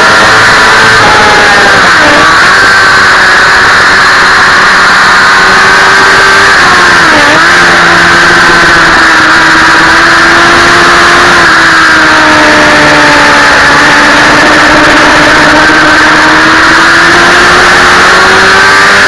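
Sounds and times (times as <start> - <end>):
motorcycle engine at high revs: 0.0 - 19.0.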